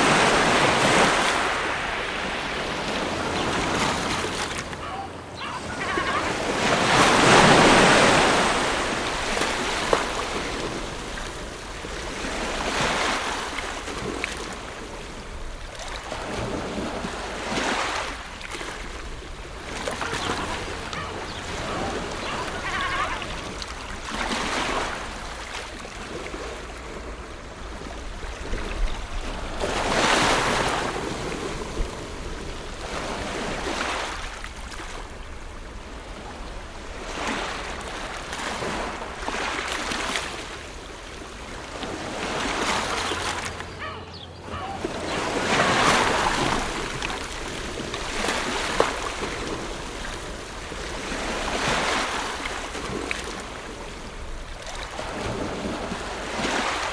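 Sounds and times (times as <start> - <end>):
low rumble of wind: 0.0 - 56.9
ocean waves breaking: 0.0 - 56.9.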